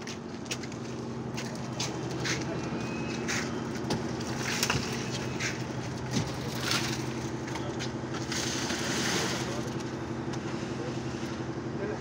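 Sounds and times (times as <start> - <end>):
concrete mixer engine humming: 0.0 - 12.0.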